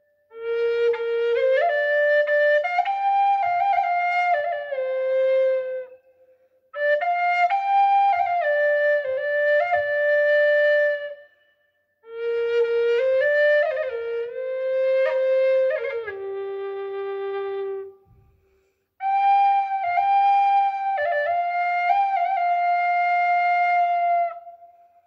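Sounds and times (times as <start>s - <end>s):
solo flute melody: 0.0s - 25.0s.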